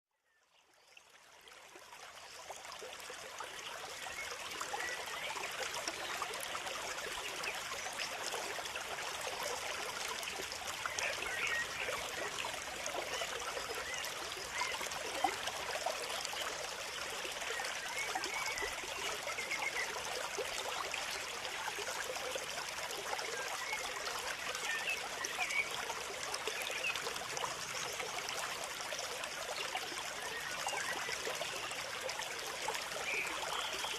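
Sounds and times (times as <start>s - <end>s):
trickling water: 0.2s - 33.9s.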